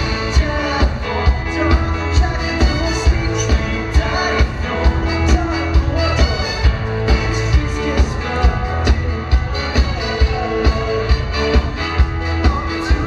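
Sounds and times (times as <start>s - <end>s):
drums steady beat: 0.0s - 13.0s
electric guitars: 0.0s - 13.0s
live band through pa: 0.0s - 13.0s.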